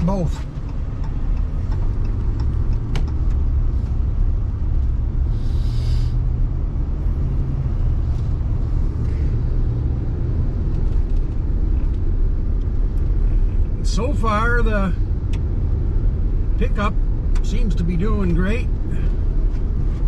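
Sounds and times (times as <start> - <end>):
engine and tyre rumble: 0.0 - 20.0.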